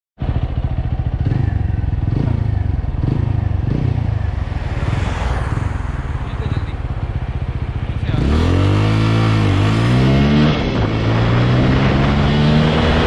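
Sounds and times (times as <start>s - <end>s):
motorcycle engine revving: 0.2s - 13.0s.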